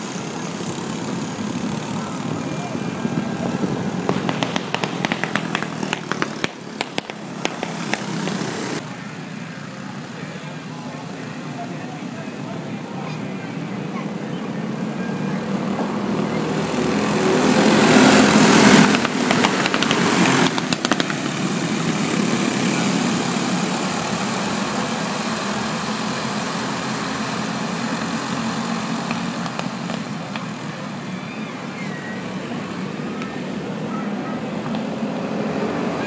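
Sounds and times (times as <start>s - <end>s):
go-kart engines racing: 0.0s - 36.0s.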